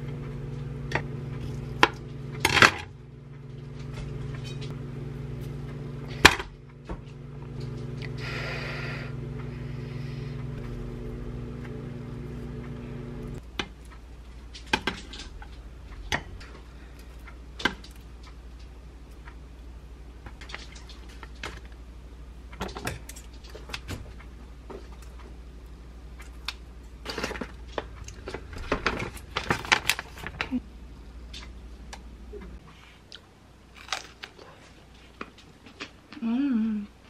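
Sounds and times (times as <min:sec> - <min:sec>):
appliance hum: 0:00.0 - 0:37.0.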